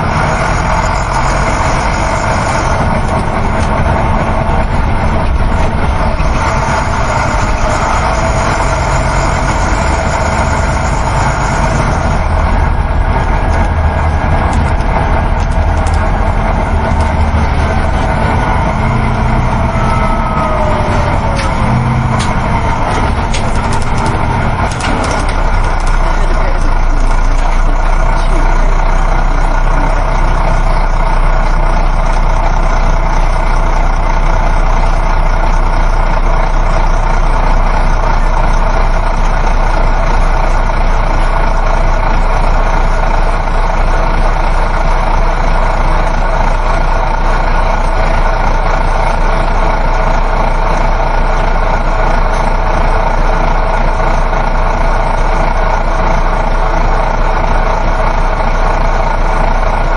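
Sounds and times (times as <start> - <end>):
bus engine drone: 0.0 - 59.9
road noise inside bus: 0.0 - 59.9.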